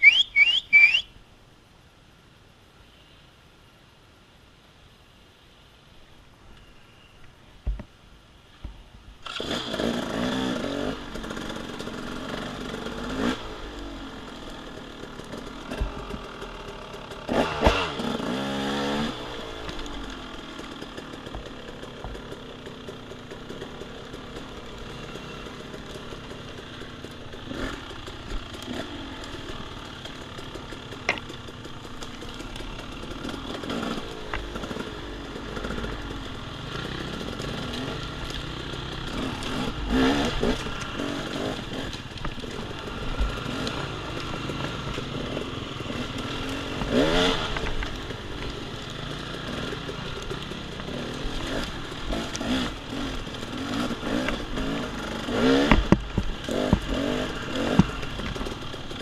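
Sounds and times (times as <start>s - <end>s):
dirt bike engine revving: 9.2s - 59.0s.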